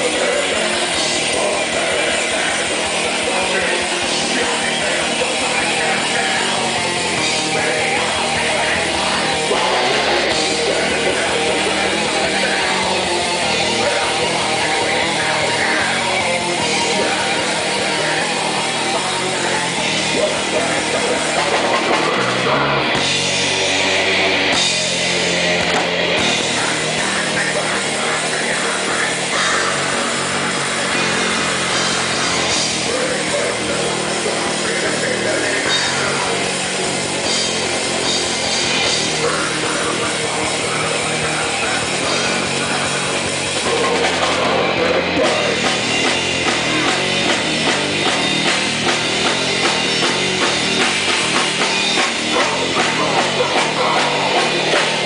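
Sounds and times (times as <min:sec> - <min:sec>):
person singing into a microphone: 0:00.0 - 0:25.5, 0:26.2 - 0:55.0
bass: 0:00.0 - 0:55.0
distorted electric guitars: 0:00.0 - 0:55.0
drum kit: 0:00.0 - 0:55.0.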